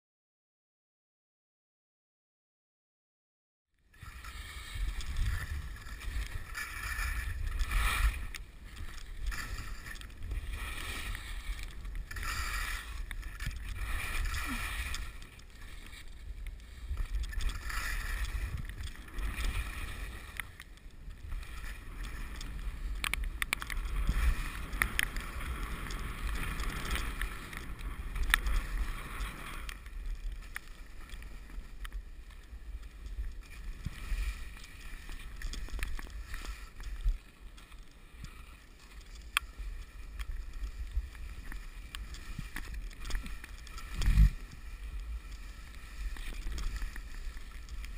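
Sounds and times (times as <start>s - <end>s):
skis swishing through snow: 4.0s - 47.9s.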